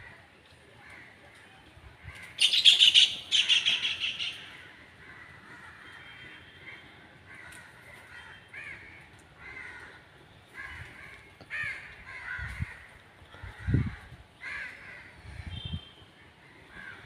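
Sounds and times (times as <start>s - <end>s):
crows cawing: 2.0s - 15.3s, 16.4s - 17.0s.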